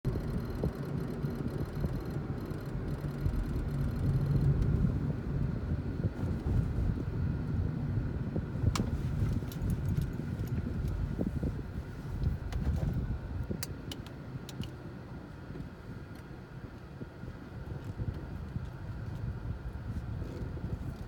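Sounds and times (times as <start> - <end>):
car engine low rumble: 0.0 - 21.0.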